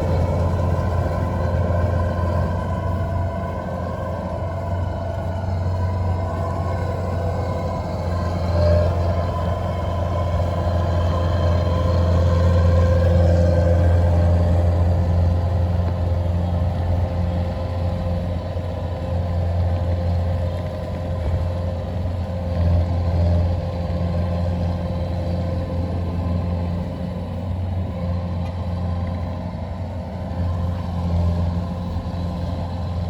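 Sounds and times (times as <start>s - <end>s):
combine harvester engine droning: 0.0s - 33.0s
steady machine whine: 0.0s - 33.0s.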